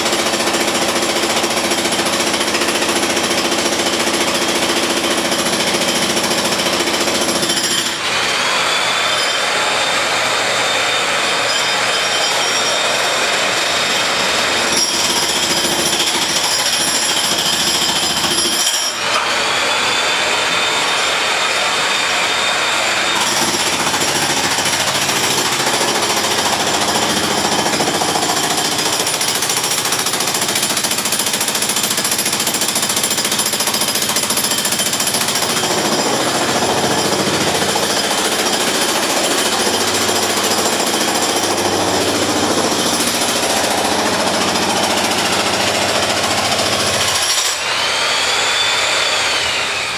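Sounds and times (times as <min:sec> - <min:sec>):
jackhammer hammering: 0:00.0 - 0:49.8.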